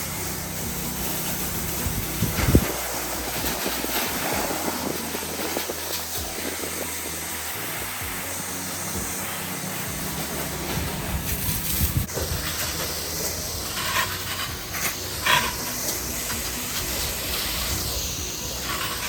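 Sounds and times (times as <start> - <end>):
engine pump humming: 0.0 - 19.0
pressure washer spray hissing: 0.0 - 19.0.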